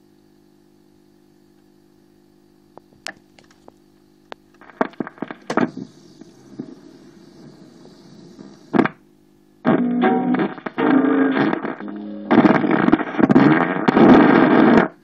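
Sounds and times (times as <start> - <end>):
record player humming: 0.0 - 15.0
record clicks and crackles: 2.7 - 15.0.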